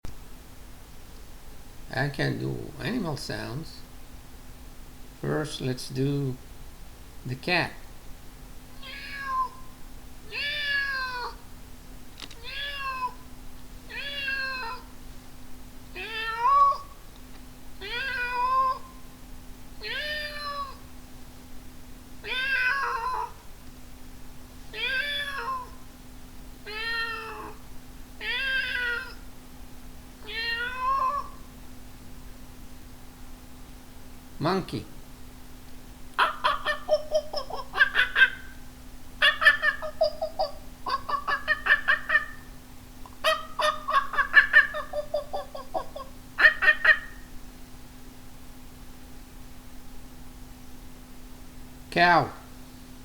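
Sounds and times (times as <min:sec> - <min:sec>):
faint steady hum: 0:00.1 - 0:53.0.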